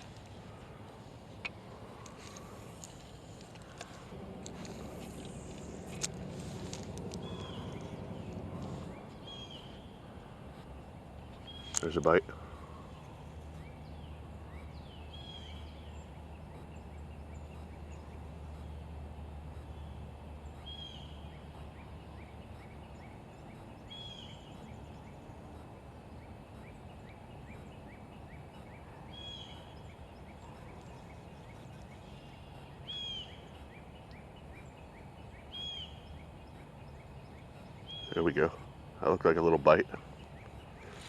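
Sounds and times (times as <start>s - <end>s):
low steady rumble: 0.0s - 41.0s.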